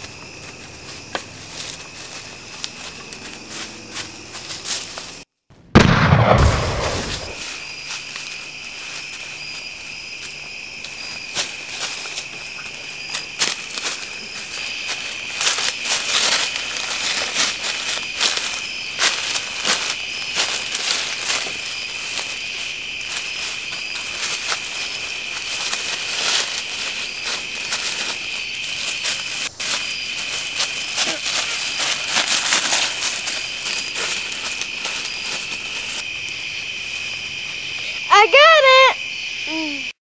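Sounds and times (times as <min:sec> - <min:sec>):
footsteps through dry leaves: 0:00.0 - 0:05.2, 0:06.0 - 0:36.1
night insects trilling: 0:00.0 - 0:40.0.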